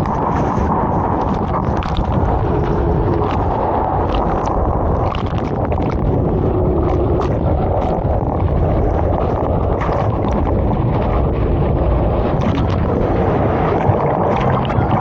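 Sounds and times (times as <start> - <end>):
splashy crackles: 0.0 - 15.0
water rushing on a slide: 0.0 - 15.0
wind buffeting microphone: 0.0 - 15.0.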